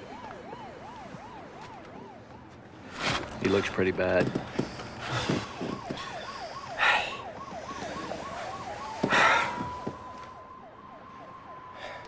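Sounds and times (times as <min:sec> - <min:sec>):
police siren yelp: 0:00.0 - 0:02.5, 0:04.5 - 0:12.0
siren steady wail: 0:00.0 - 0:12.0.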